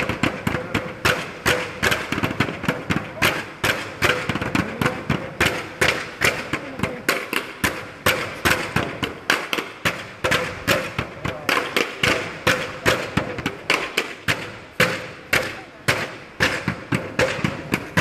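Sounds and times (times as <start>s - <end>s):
percussion sticks clacking: 0.0s - 18.0s.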